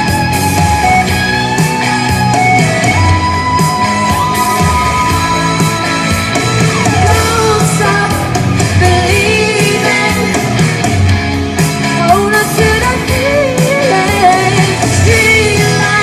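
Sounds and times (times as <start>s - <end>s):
person singing rock song: 0.0s - 16.0s
rock band playing: 0.0s - 16.0s.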